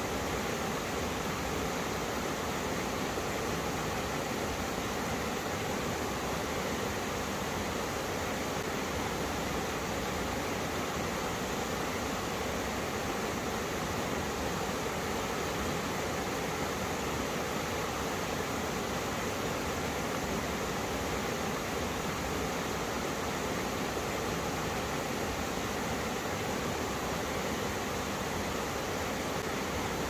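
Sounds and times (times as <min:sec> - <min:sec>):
streams rushing over rocks: 0:00.0 - 0:30.0.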